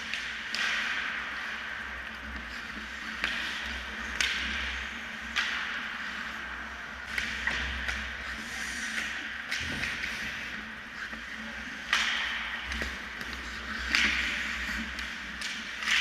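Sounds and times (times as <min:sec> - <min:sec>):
hockey sticks and puck clacking: 0:00.0 - 0:16.0.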